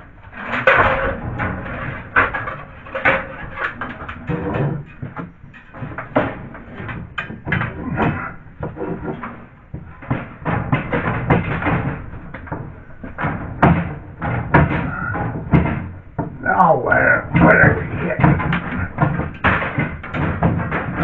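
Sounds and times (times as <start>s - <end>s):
knocks and clunks of tools: 0.3s - 21.0s.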